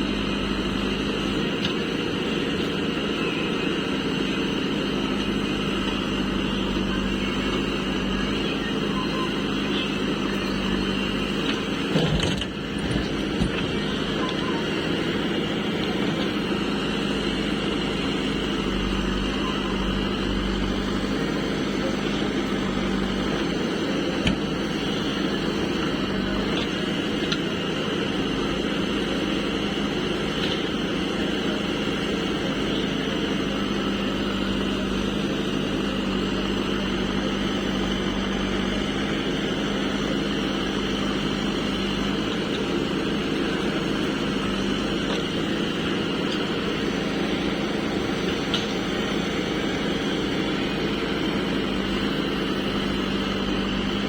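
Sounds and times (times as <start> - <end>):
diesel engine running: 0.0 - 54.0
engine knocks: 4.9 - 54.0.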